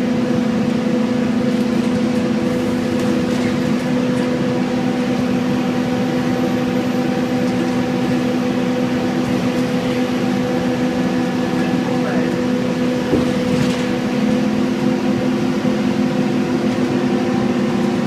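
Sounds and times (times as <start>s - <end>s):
bus diesel engine humming: 0.0s - 18.0s.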